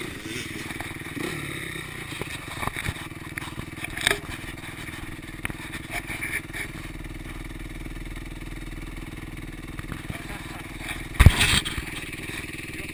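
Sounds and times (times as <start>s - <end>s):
motocross bike engine running: 0.0s - 12.9s.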